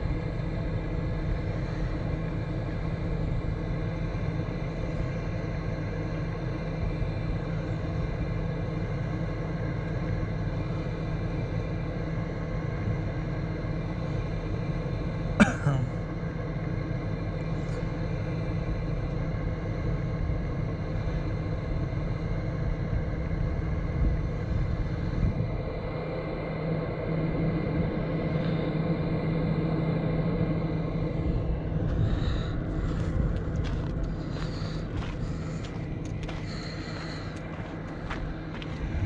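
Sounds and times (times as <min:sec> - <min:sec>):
vehicle engine idling: 0:00.0 - 0:39.0.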